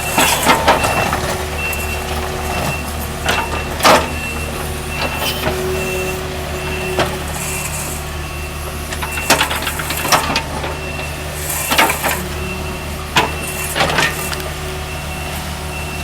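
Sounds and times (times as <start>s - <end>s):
heavy machinery engine hum: 0.0s - 16.0s
backup alarm beeping: 0.1s - 16.0s.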